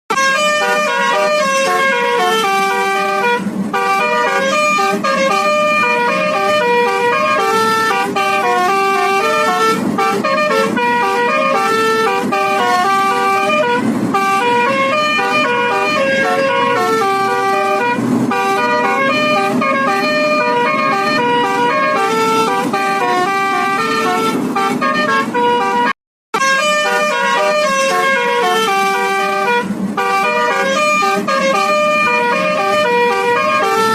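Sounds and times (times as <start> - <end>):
multi-tone bus horn playing tunes: 0.1 - 33.9.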